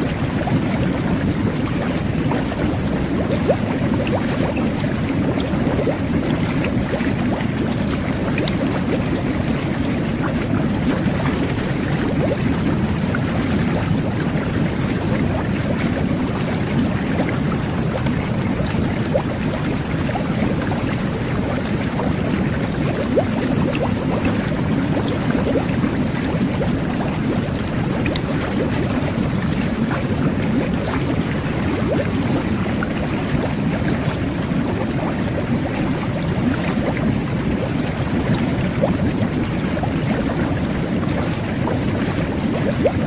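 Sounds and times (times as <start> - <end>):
small water pops and splashes: 0.0 - 40.4
jet bath water churning: 0.0 - 43.0.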